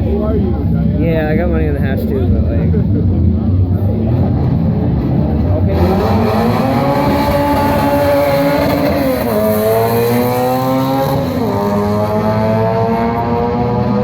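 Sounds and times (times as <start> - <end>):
car engine accelerating hard: 1.8 - 14.0.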